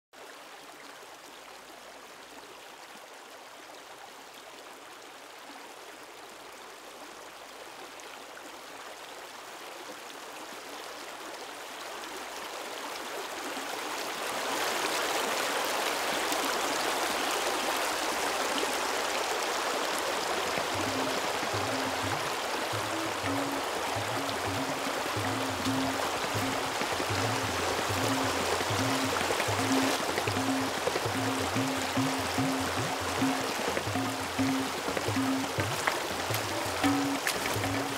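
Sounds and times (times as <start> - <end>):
stream running over stones: 0.2 - 37.9.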